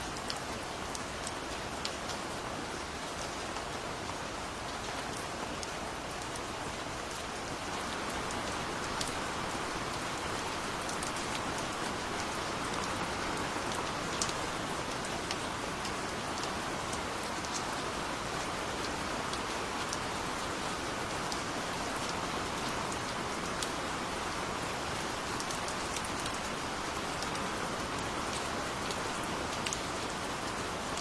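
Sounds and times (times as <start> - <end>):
raindrops ticking on a surface: 0.0 - 31.0.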